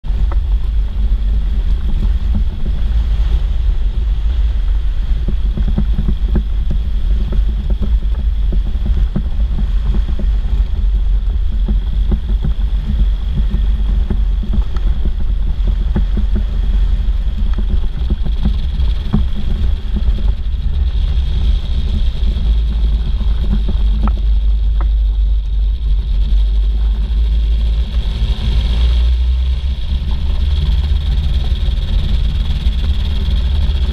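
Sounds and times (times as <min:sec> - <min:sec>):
engine and propeller running: 0:00.0 - 0:33.9
wind rumble on microphone: 0:00.0 - 0:33.9.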